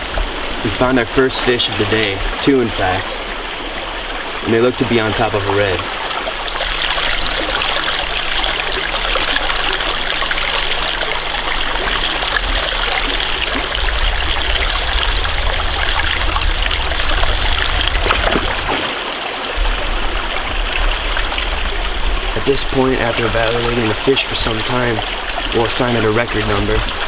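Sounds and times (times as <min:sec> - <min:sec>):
creek water flowing: 0:00.0 - 0:27.0.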